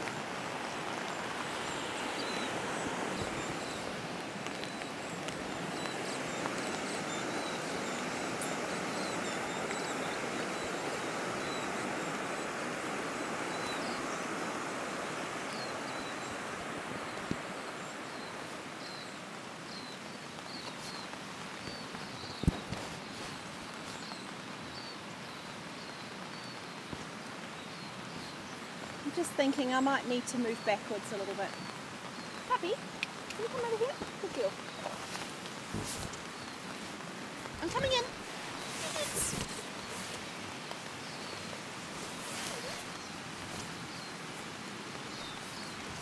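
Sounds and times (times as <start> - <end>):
river flowing: 0.0 - 46.0.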